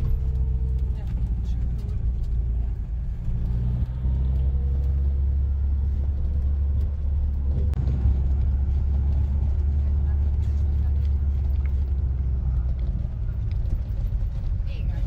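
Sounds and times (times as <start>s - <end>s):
van road and engine rumble: 0.0s - 15.0s.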